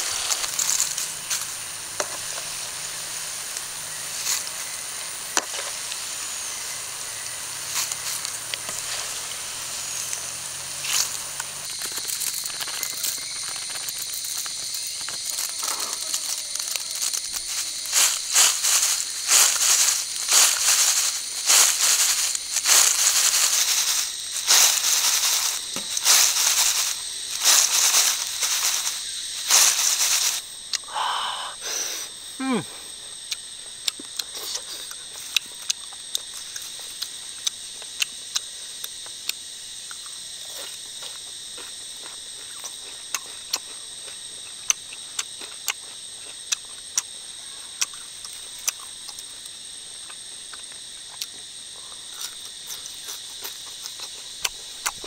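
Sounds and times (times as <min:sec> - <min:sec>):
crickets rattling in bamboo basket: 0:00.0 - 0:55.0
high insect drone: 0:00.0 - 0:55.0.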